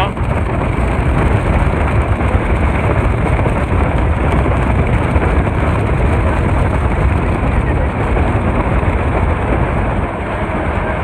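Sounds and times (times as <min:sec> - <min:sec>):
speedboat running on water: 0:00.0 - 0:11.0
wind rumbling on microphone: 0:00.0 - 0:11.0.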